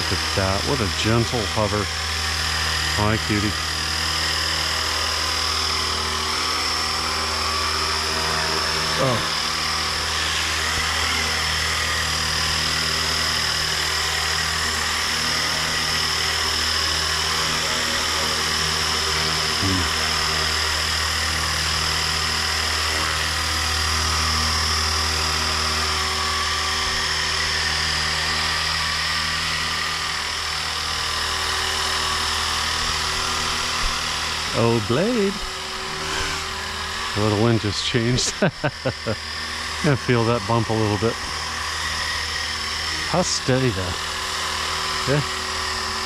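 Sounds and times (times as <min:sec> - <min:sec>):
helicopter rotor hum: 0:00.0 - 0:46.0
high steady whine: 0:00.0 - 0:46.0.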